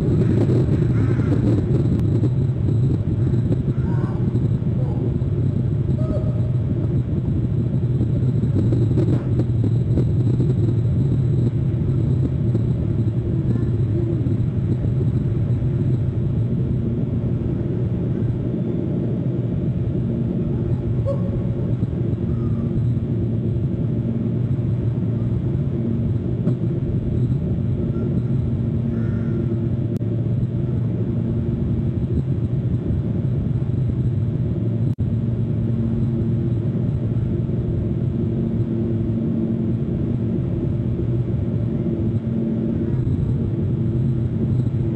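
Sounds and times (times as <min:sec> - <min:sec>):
low outdoor rumble: 0:00.0 - 0:44.9.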